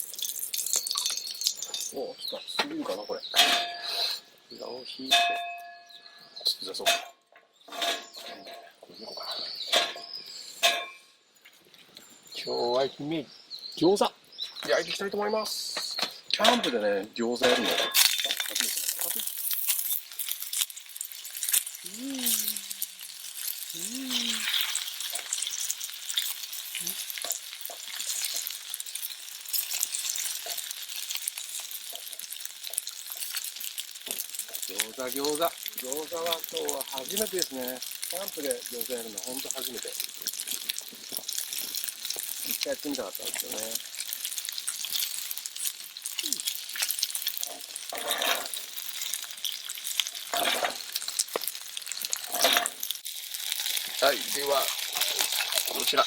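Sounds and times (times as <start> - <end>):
dumplings sizzling in hot oil: 0.0 - 56.0
oil popping and crackling: 0.0 - 56.0.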